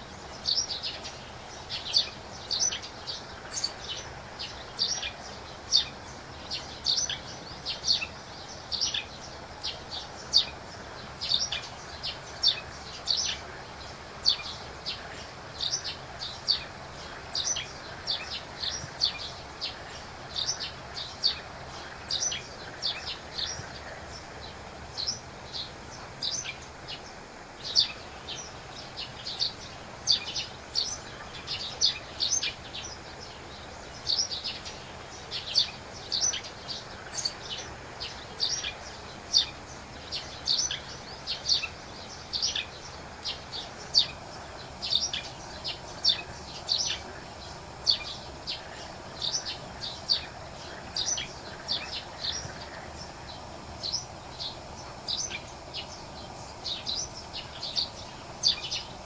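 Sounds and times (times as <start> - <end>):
birds chirping: 0.0 - 59.0
low background noise: 0.0 - 59.0.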